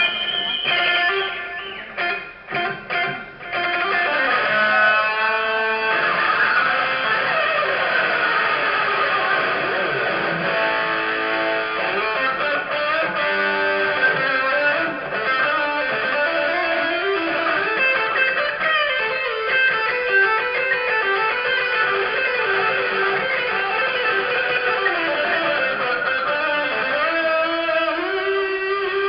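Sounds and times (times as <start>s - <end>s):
electric guitar solo: 0.0s - 29.0s.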